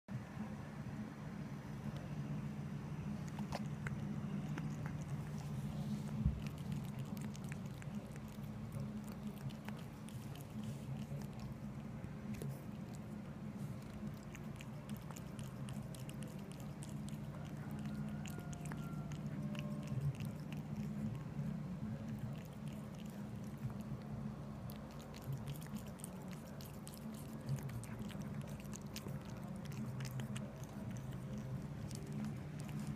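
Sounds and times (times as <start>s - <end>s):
steady low hum: 0.1s - 32.9s
cat lapping milk: 3.2s - 32.9s.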